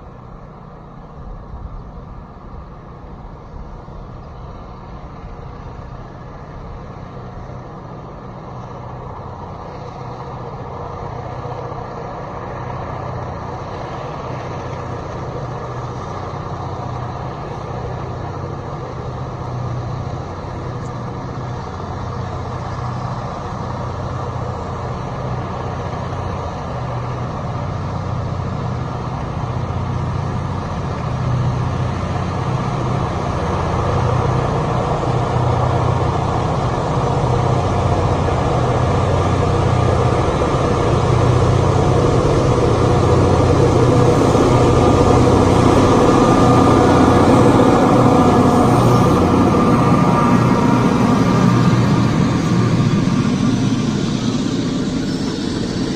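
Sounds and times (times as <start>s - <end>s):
diesel locomotive engine rumble: 0.0s - 55.9s.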